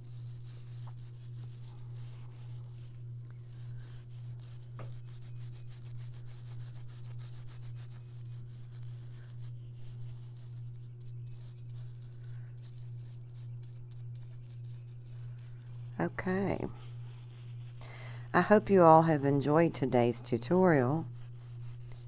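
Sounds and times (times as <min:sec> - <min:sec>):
hand rubbing clay plaque: 0:00.0 - 0:22.0
steady low hum: 0:00.0 - 0:22.0.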